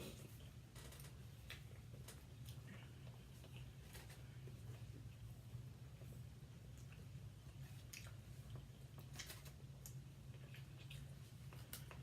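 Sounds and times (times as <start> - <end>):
chewing and eating: 0.0 - 12.0
low steady hum: 0.0 - 12.0.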